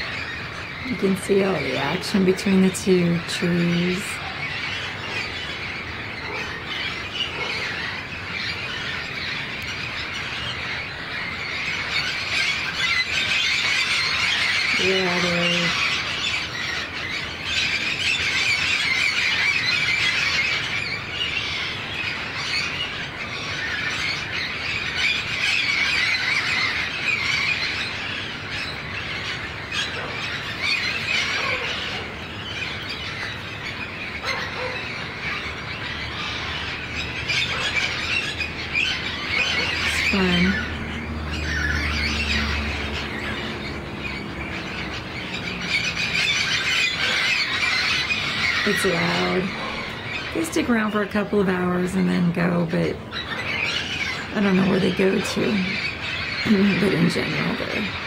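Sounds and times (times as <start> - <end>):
parrots screeching and squawking: 0.0 - 58.0.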